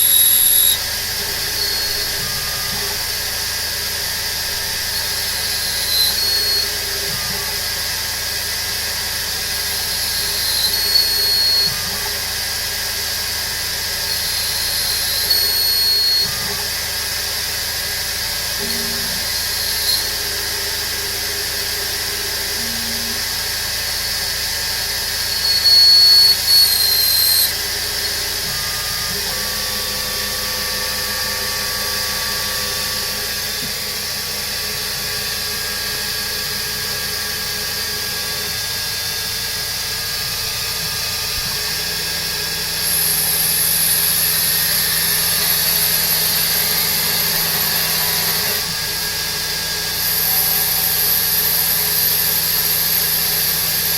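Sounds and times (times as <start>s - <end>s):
high spindle whine: 0.0s - 53.9s
milling machine hum: 0.0s - 53.9s.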